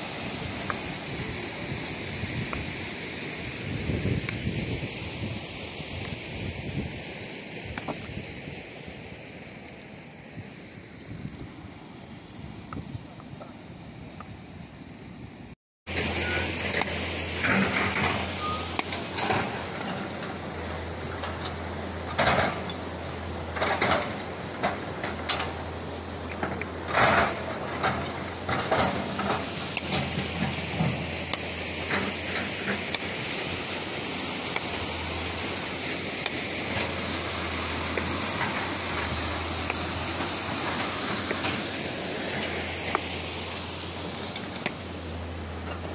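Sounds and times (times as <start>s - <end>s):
steady rushing hiss: 0.0s - 45.9s.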